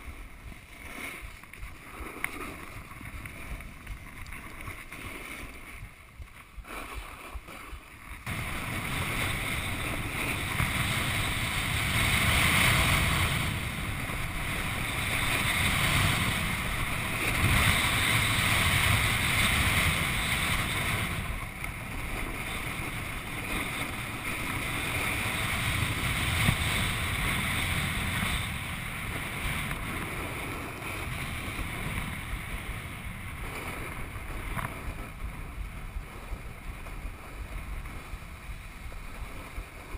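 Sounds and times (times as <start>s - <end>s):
snowboard scraping over snow: 0.0s - 39.9s
wind buffeting microphone: 0.0s - 39.9s.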